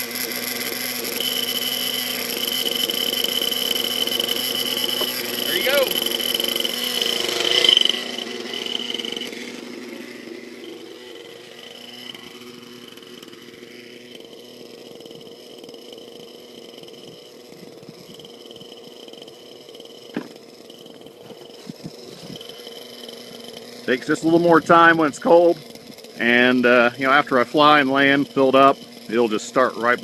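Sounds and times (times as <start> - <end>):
nitro engine idling: 0.0 - 30.0.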